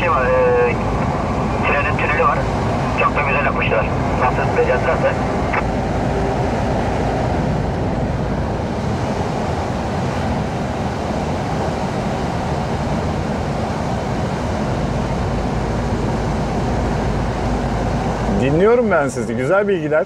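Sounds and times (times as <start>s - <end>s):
lorry engine and road rumble: 0.0s - 20.0s.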